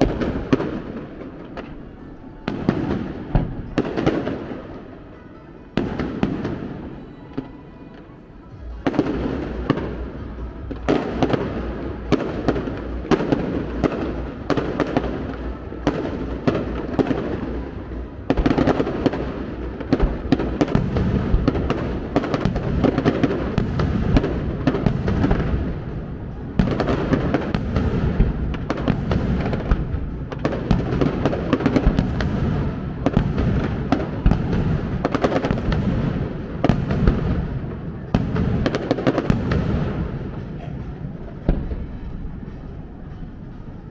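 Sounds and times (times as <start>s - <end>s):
fireworks bangs: 0.0s - 43.8s.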